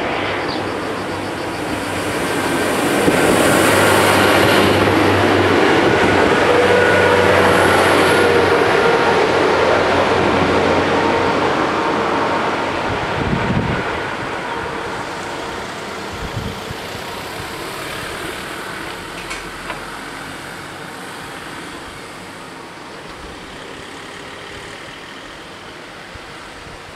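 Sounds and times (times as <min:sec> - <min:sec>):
train rumble: 0:00.0 - 0:26.9.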